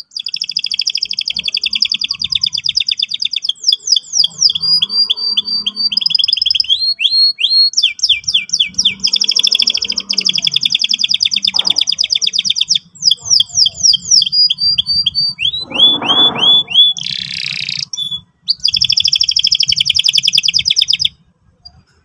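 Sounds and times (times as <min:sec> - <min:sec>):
canary singing trills: 0:00.0 - 0:21.8.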